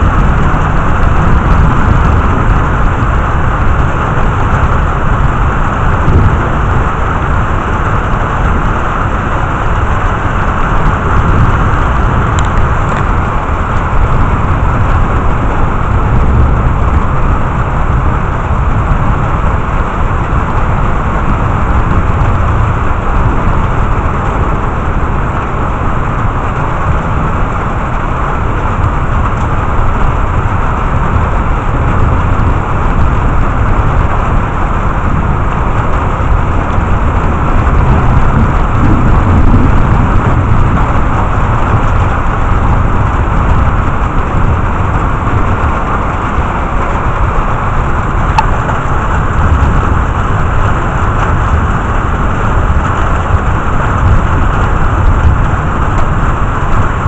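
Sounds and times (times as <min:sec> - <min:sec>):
deep thunder rumble: 0:00.0 - 0:57.0
heavy rain falling: 0:00.0 - 0:57.0.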